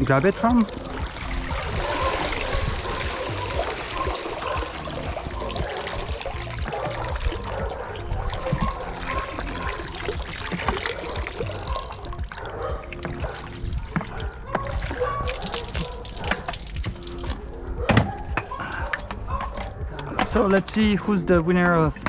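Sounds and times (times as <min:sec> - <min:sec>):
small water splashes: 0:00.0 - 0:22.0
water trickling: 0:00.0 - 0:22.0.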